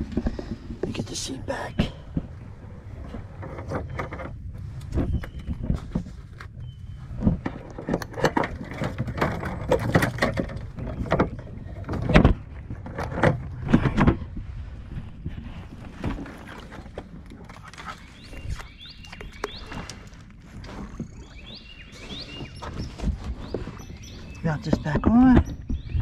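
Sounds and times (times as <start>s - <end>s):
twigs brushing along hull: 0.0s - 25.3s
plastic kayak knocking and scraping: 0.0s - 26.0s.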